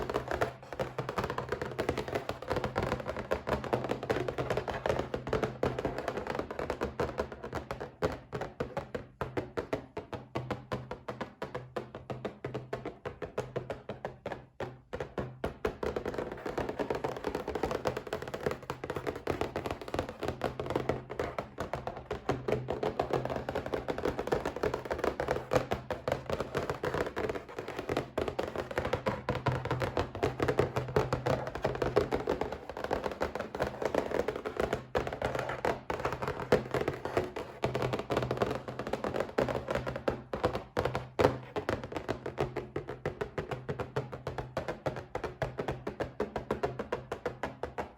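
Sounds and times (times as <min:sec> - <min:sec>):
rapid tapping on a box: 0:00.0 - 0:47.9.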